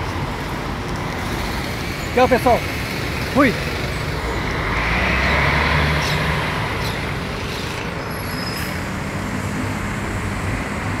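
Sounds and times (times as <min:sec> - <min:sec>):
bus engine pulling away: 0:00.0 - 0:11.0
passing cars rumbling: 0:00.0 - 0:11.0.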